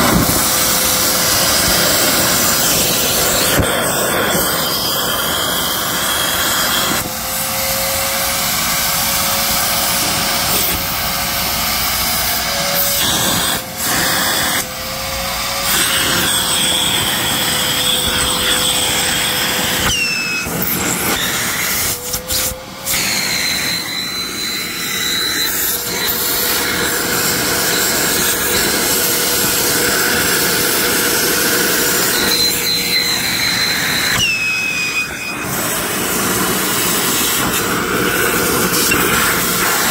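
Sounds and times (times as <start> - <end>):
high whistle of suction: 0.0 - 39.9
vacuum cleaner running: 0.0 - 39.9.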